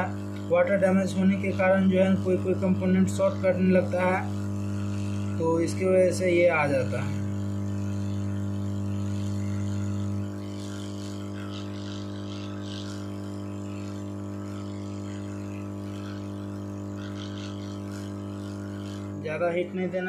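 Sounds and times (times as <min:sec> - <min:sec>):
hot air gun blowing: 0:00.0 - 0:20.0.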